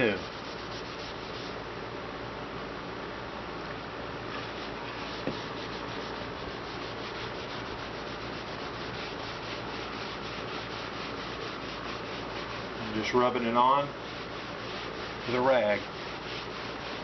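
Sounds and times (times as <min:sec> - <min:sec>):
rag scrubbing sheet metal: 0:00.0 - 0:01.6, 0:04.3 - 0:17.0.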